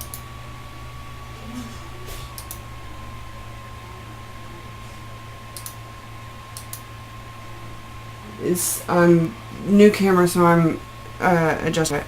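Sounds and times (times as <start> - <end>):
low steady hum: 0.0 - 12.0
thin steady whine: 0.0 - 12.0.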